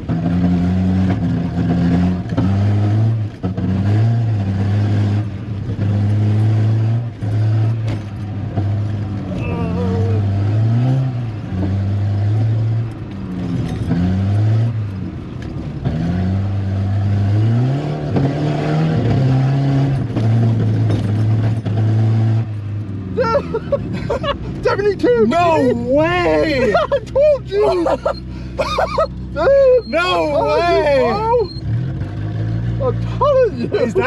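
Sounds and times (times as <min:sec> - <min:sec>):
car engine revving under load: 0:00.0 - 0:34.0.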